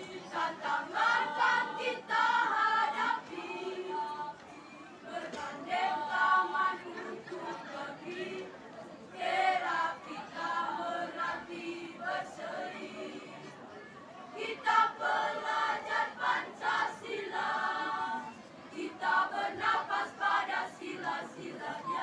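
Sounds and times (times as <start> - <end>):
choir singing in parts: 0.0 - 13.7, 14.4 - 22.0.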